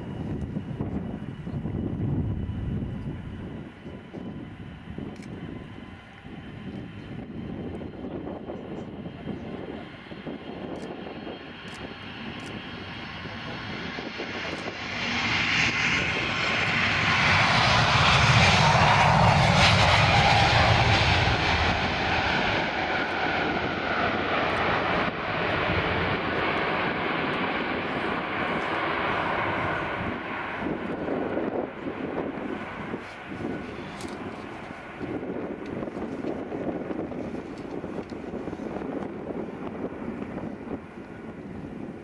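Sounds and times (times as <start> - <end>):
jet taking off: 0.0 - 42.0.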